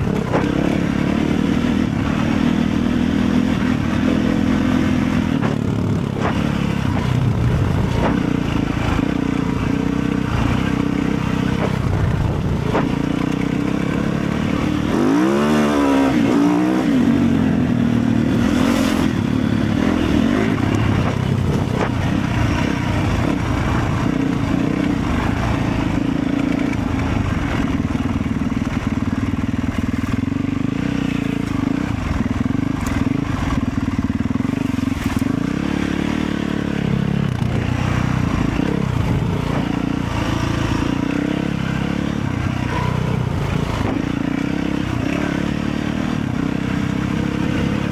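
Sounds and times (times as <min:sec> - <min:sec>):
motorcycle engine rumbling: 0:00.0 - 0:47.9.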